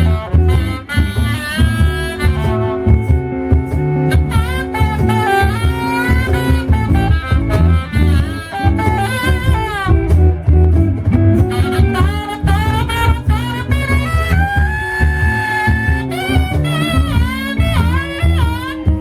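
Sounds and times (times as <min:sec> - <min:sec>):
blues band playing: 0:00.0 - 0:19.0
saxophone solo: 0:00.0 - 0:19.0.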